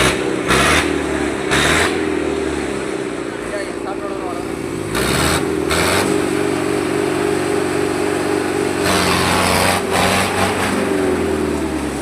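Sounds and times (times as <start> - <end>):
tractor engine at high revs: 0.0 - 12.0.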